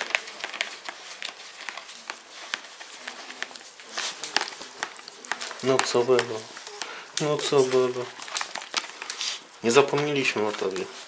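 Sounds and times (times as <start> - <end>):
dog handling clicks and rustles: 0.0 - 11.0.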